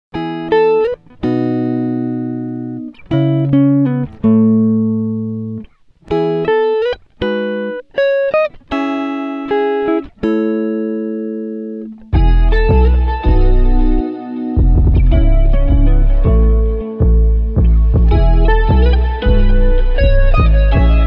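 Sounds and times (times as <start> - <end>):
plucked guitar tune: 0.1 - 21.0.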